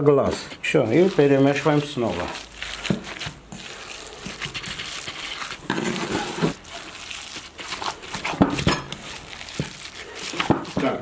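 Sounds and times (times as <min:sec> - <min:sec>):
hand squishing wet meat mix: 0:00.0 - 0:11.0
disposable glove crinkling: 0:00.2 - 0:11.0.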